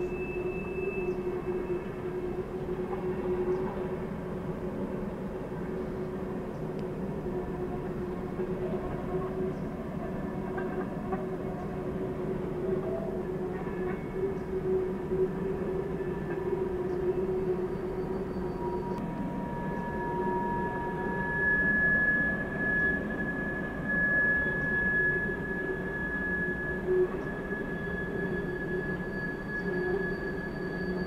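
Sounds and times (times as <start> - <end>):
train cars rumbling: 0.0 - 31.0.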